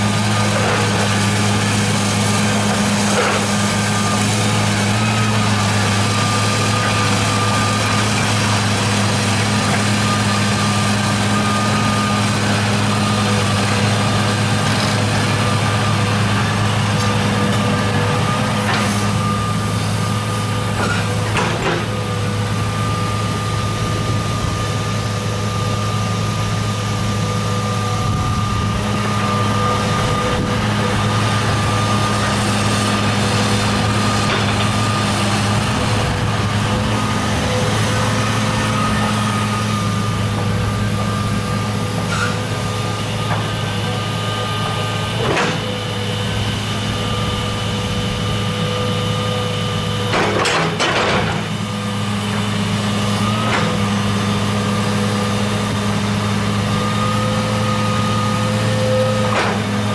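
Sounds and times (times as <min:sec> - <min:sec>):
high whine: 0:00.0 - 0:50.4
diesel excavator engine running: 0:00.0 - 0:59.9.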